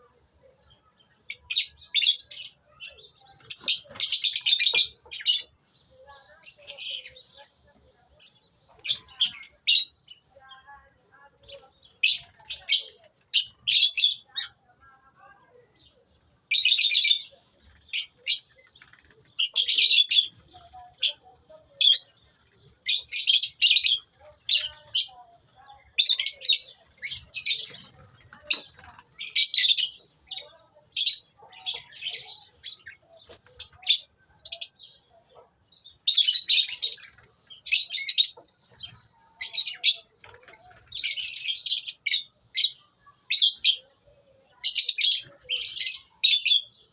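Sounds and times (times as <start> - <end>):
lovebirds chirping: 0.0 - 46.9.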